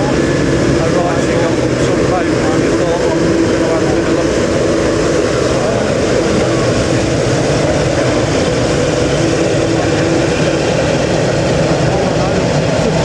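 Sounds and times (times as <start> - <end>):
jet airliner engines: 0.0 - 13.0.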